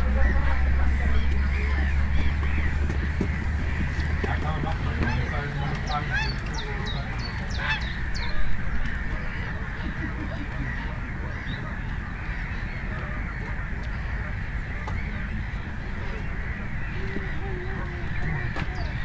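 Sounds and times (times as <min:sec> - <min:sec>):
honking bird calls: 0:00.0 - 0:19.0
low background rumble: 0:00.0 - 0:19.0.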